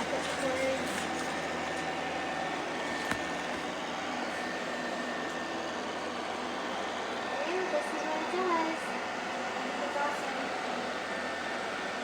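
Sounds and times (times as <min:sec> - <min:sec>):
robot vacuum cleaner running: 0:00.0 - 0:12.0.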